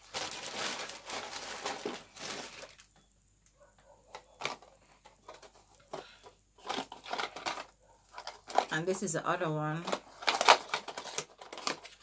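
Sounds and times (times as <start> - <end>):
packaging rustling and crinkling: 0.0 - 3.0, 4.1 - 9.0, 9.8 - 12.0.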